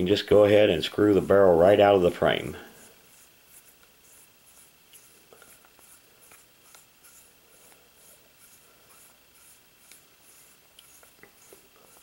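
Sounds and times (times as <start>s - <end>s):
metal threads scratchy rubbing: 1.8s - 12.0s.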